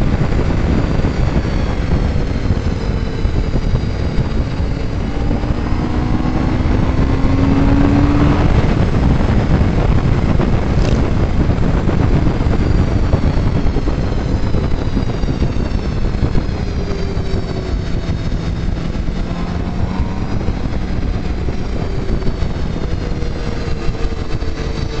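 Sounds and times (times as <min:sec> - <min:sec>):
motorcycle engine revving: 0:00.0 - 0:25.0
wind rush on microphone: 0:00.0 - 0:25.0.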